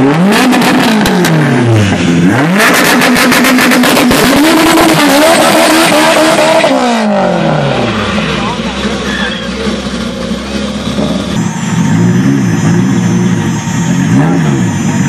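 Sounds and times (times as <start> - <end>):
car accelerating at full throttle: 0.0 - 15.0
racing car engines revving: 0.0 - 15.0.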